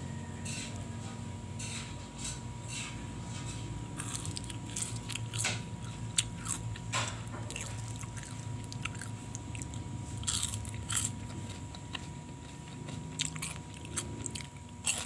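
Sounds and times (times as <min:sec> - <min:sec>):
crunching and chewing food: 0:00.4 - 0:15.0.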